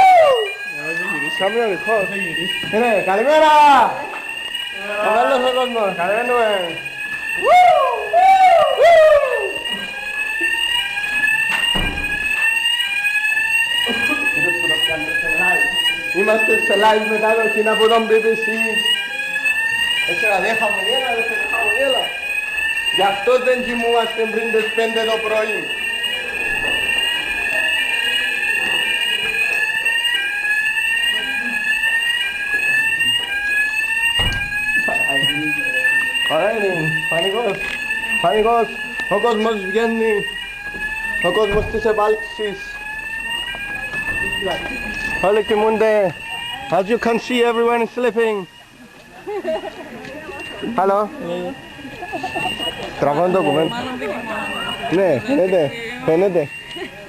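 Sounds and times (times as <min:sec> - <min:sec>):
fire alarm sweep tone: 0:00.0 - 0:57.0.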